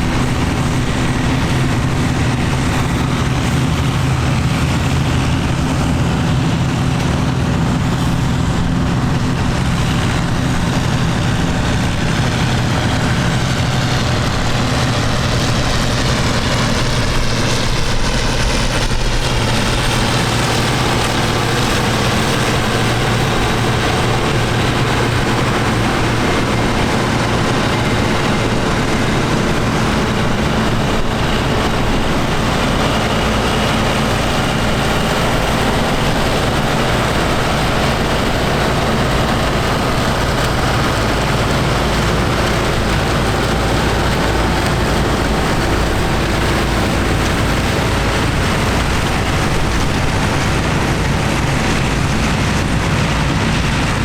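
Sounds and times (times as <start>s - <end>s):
farm machinery engine drone: 0.0s - 54.0s.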